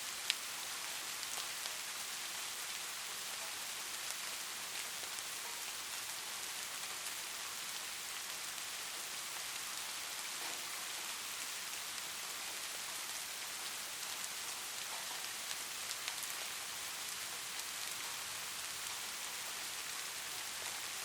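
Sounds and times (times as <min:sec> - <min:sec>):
raindrops ticking on a surface: 0:00.0 - 0:21.0
steady rain: 0:00.0 - 0:21.0.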